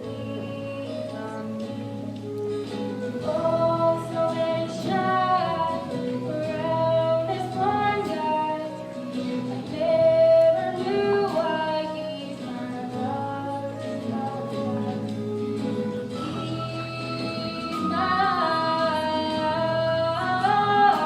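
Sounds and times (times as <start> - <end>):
instrumental accompaniment: 0.0 - 21.0
woman singing slow song: 0.0 - 21.0.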